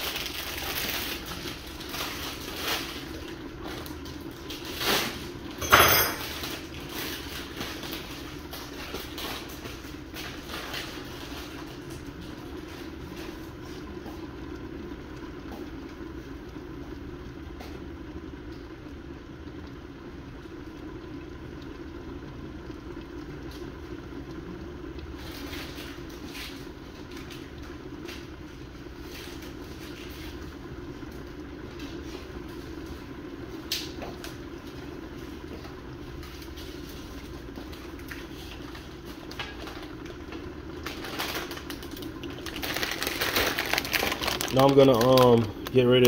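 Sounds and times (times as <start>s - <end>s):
pot bubbling and crackling: 0.0s - 46.0s
steady low hum: 0.0s - 46.0s.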